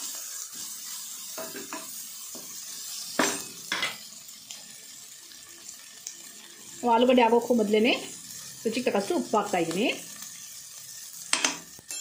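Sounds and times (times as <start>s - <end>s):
light sizzle: 0.0s - 12.0s.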